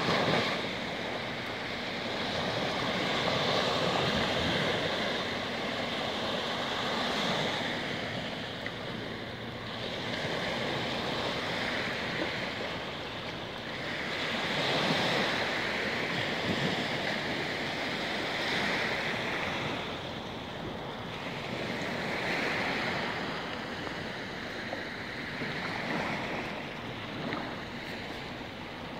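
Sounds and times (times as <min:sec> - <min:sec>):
small waves lapping on shore: 0:00.0 - 0:28.9.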